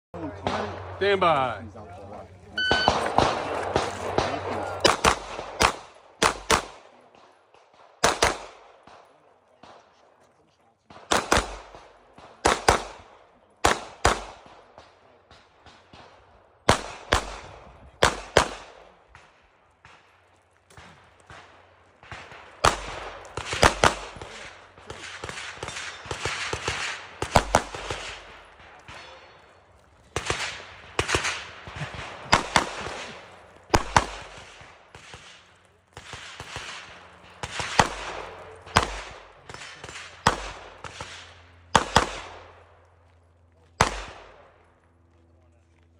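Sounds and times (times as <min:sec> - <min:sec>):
pistol shots with echo: 0:02.6 - 0:10.1, 0:10.8 - 0:43.0, 0:43.8 - 0:44.7.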